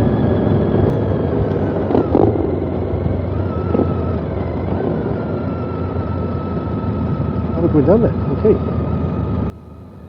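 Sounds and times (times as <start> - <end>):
motorcycle engine running: 0.0 - 10.0
road and wind noise: 0.0 - 10.0
steady whine: 0.0 - 10.0.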